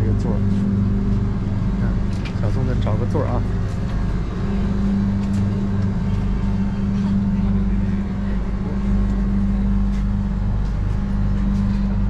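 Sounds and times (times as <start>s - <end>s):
train carriage low hum and rumble: 0.0s - 12.0s.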